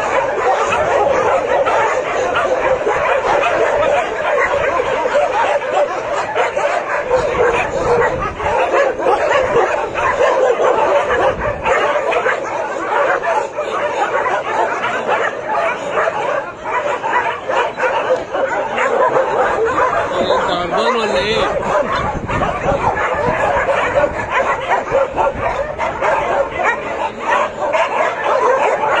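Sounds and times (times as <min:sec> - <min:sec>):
dogs barking: 0:00.0 - 0:29.0.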